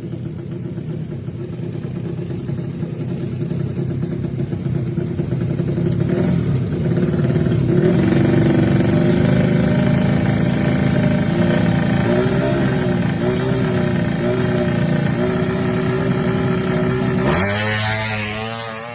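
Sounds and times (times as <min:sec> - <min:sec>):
motorcycle engine revving: 0:01.7 - 0:18.9.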